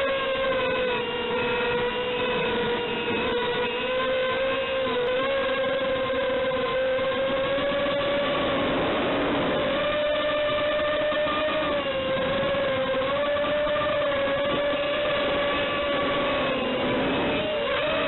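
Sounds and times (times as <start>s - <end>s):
drone motor and propellers whining: 0.0s - 18.0s.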